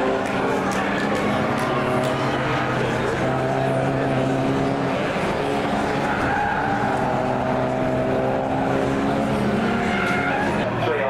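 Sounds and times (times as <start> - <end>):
cars driving past: 0.0 - 11.0
race car engines: 0.0 - 11.0.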